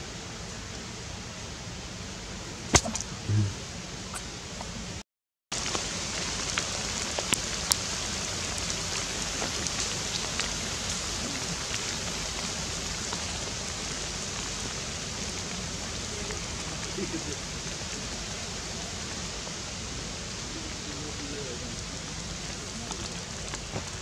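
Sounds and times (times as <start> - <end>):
forest background hiss: 0.0 - 5.0, 5.6 - 24.0.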